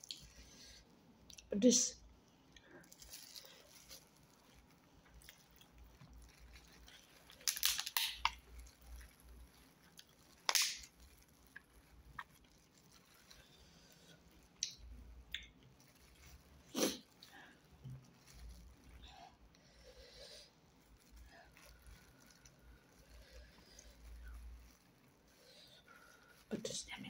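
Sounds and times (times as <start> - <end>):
person chewing food: 0.0 - 1.5, 2.4 - 26.5
plastic gloves crinkling: 0.0 - 27.0.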